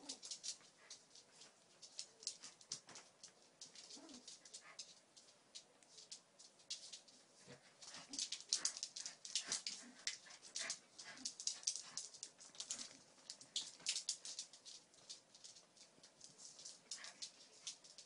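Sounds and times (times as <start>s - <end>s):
dogs scuffling while playing: 0.0s - 18.0s.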